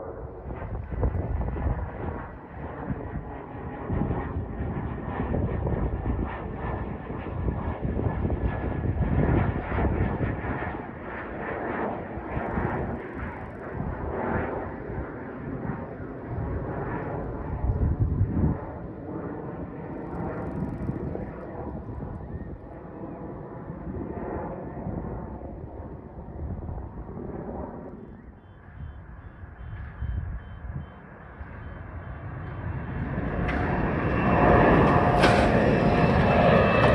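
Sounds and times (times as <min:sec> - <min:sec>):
small plane engine overhead: 0:00.0 - 0:36.9.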